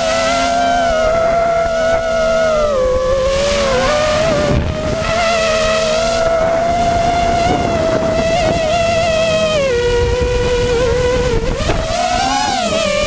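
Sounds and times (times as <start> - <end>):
quadcopter motors whining: 0.0 - 13.0
wind rumble on microphone: 0.0 - 13.0.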